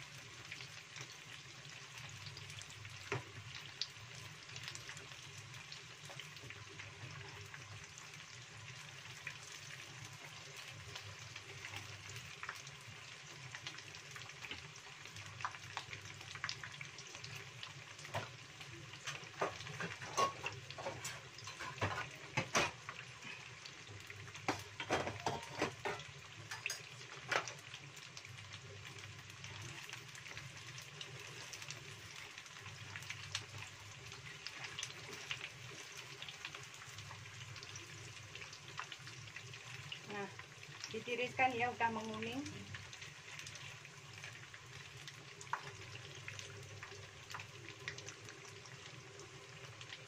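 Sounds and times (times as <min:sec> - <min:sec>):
oil crackles and pops: 0:00.0 - 0:50.0
tofu frying in hot oil: 0:00.0 - 0:50.0.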